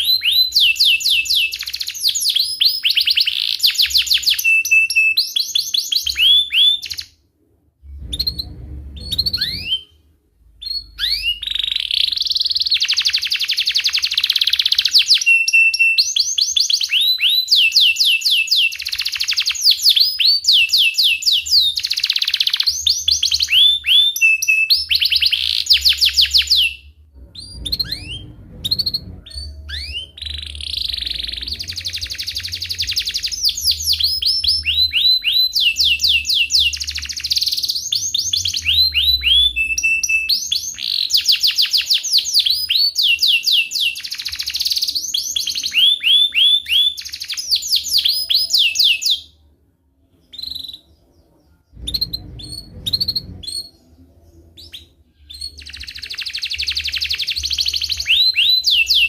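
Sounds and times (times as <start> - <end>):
canary singing trills: 0.0 - 7.2, 8.0 - 10.0, 10.6 - 49.4, 50.1 - 59.0.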